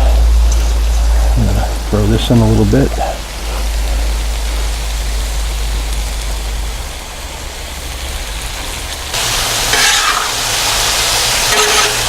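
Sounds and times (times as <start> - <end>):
food sizzling on griddle: 0.0 - 12.0
sauce sizzling on hot surface: 0.1 - 12.0.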